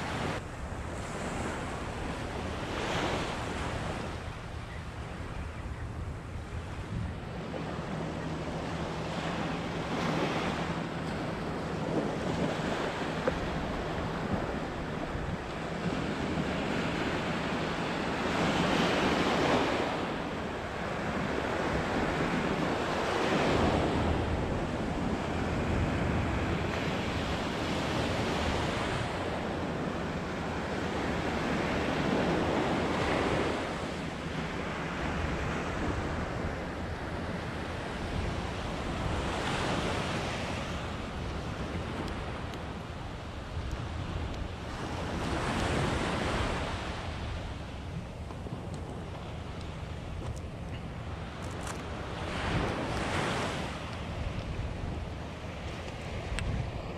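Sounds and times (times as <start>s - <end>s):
ocean surf breaking on beach: 0.0s - 56.9s
wind buffeting microphone: 0.0s - 56.9s.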